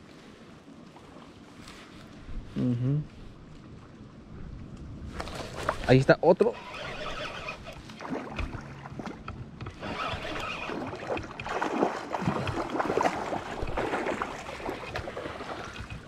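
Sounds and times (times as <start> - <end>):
river water splashing: 0.0 - 2.3, 5.0 - 16.0.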